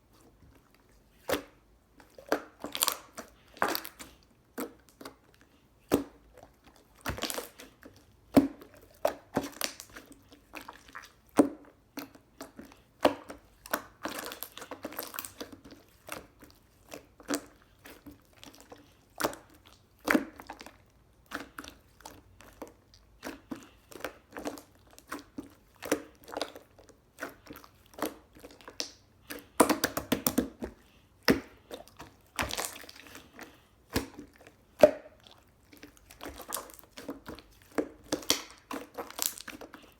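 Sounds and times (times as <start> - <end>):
slime squished by hand: 0.1 - 39.9.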